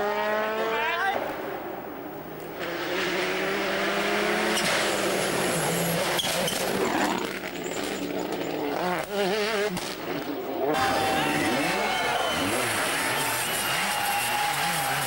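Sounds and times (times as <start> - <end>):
turbocharged rally car engine: 0.0 - 15.0.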